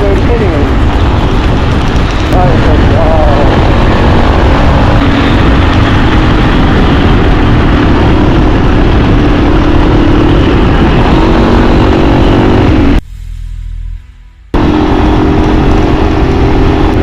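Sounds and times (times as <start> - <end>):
motorcycle engine running: 0.0 - 13.0, 14.5 - 17.0
wind rush on microphone: 0.0 - 13.0, 14.5 - 17.0.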